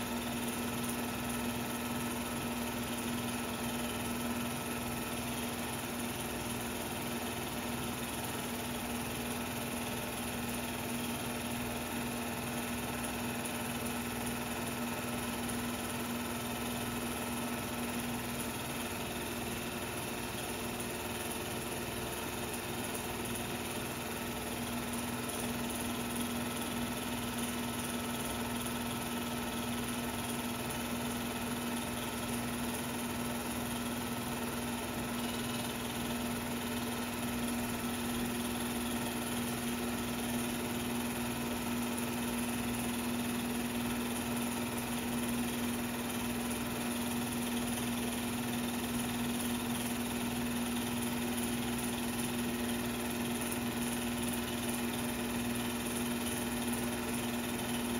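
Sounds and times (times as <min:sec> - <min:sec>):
film transfer machine hum: 0:00.0 - 0:57.9.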